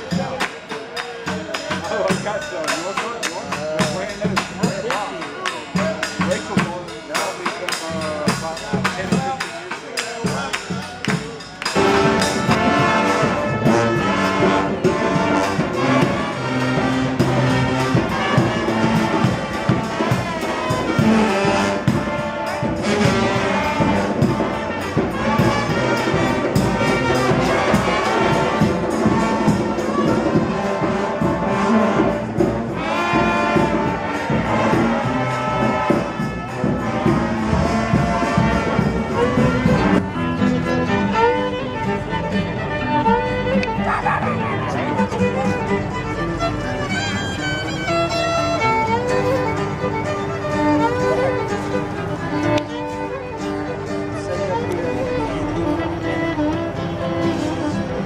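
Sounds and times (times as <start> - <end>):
brass band playing: 0.0 - 58.0
drums keeping a steady beat: 0.0 - 58.0.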